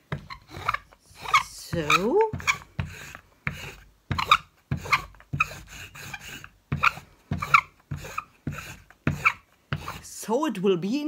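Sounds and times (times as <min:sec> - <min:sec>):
rolling pin rolling over clay: 0:00.0 - 0:10.3.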